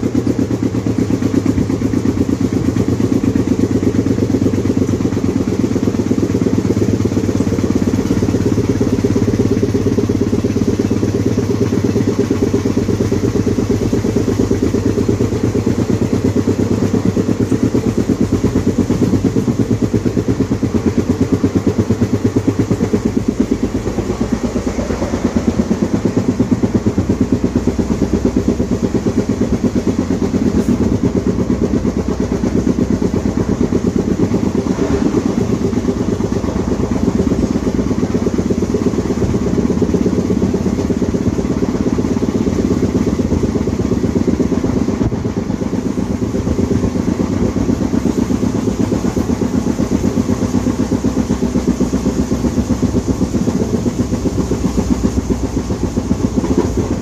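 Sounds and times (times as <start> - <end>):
flat wheel knocking on rail: 0.0 - 57.0
train running noise: 0.0 - 57.0.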